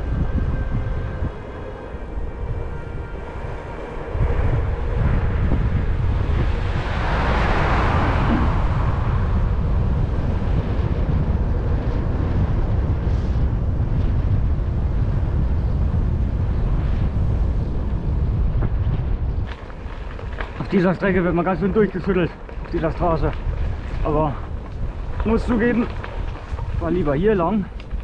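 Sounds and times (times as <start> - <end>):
tyre rumble on rough road: 0.0 - 28.0
wind buffeting microphone: 0.0 - 28.0.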